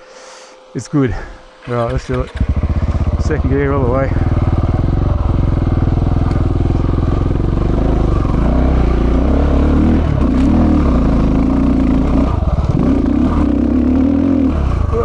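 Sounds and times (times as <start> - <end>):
motorcycle engine pulling hard: 1.6 - 15.0.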